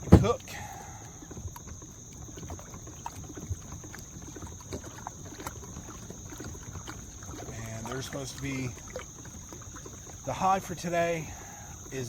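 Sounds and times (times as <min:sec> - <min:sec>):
paddle splashing water: 0:00.0 - 0:12.0.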